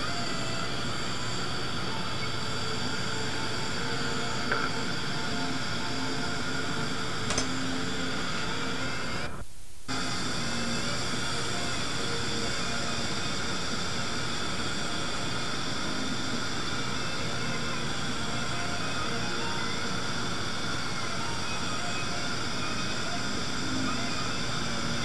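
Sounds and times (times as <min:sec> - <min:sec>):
dental suction hiss and whine: 0:00.0 - 0:25.0.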